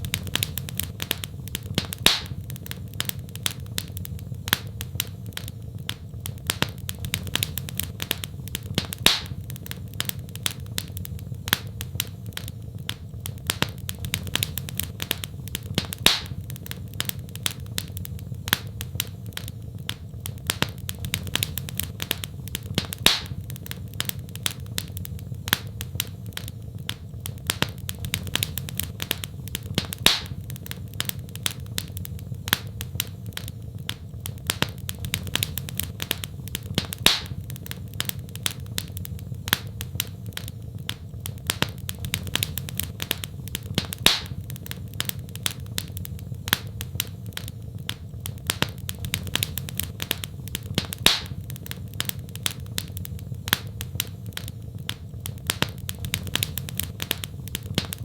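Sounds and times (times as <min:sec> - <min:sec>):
loud pop from fire: 0:00.0 - 0:58.0
wood fire crackling: 0:00.0 - 0:58.0.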